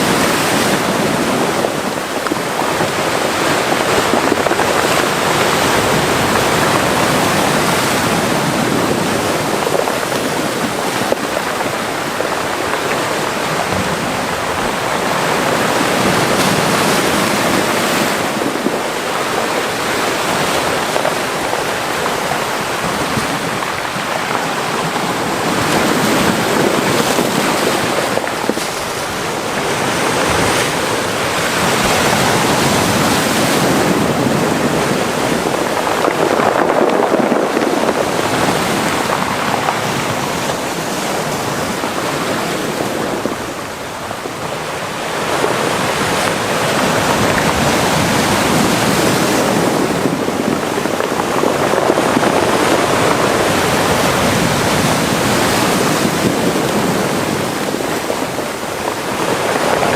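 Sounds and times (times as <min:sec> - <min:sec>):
sea waves washing into rocky cove: 0:00.0 - 0:59.9.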